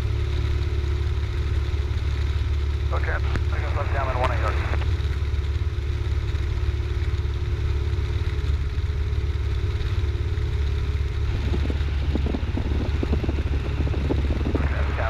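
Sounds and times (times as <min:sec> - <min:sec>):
aircraft engine and propeller droning: 0:00.0 - 0:15.0.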